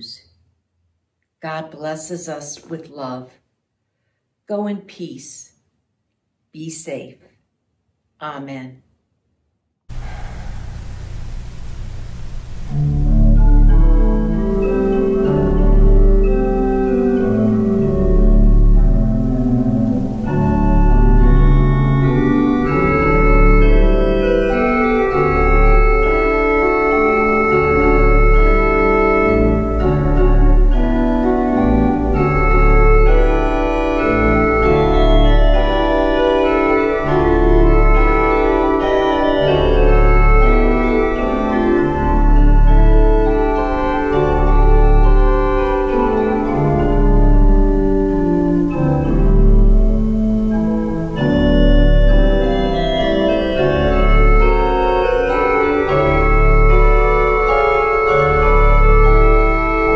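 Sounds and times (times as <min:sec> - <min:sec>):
deep organ pedal notes: 0:00.0 - 0:00.3, 0:09.9 - 0:59.9
organ playing: 0:09.9 - 0:59.9.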